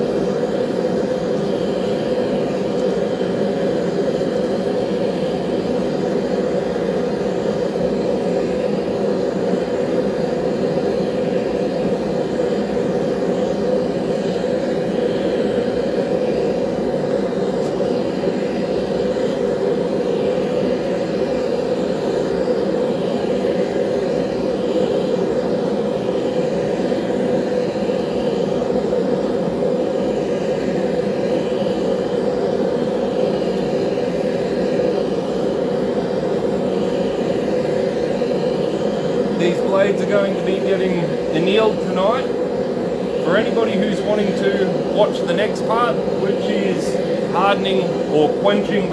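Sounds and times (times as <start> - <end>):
forge burner rushing: 0.0 - 48.9.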